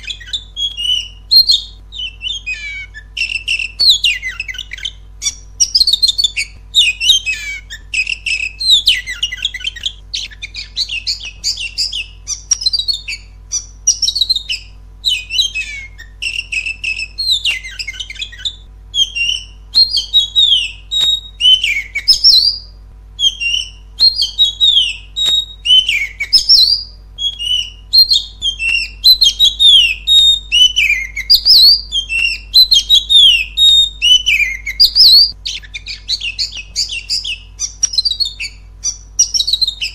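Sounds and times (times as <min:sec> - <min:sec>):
magpie-robin singing whistles: 0:00.0 - 0:39.9.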